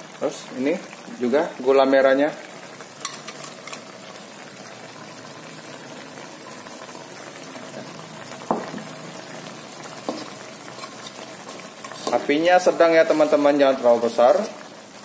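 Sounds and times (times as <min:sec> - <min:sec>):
sauce simmering and bubbling: 0:00.0 - 0:15.0.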